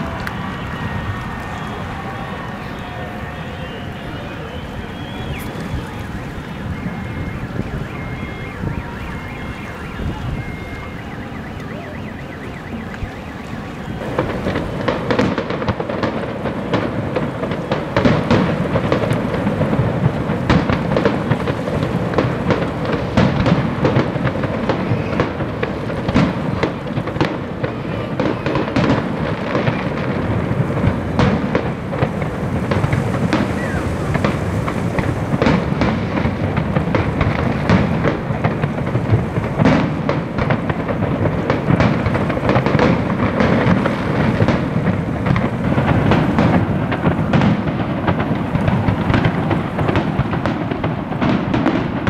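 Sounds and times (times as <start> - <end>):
background noise: 0.0 - 52.0
fireworks booms and crackling: 0.0 - 52.0.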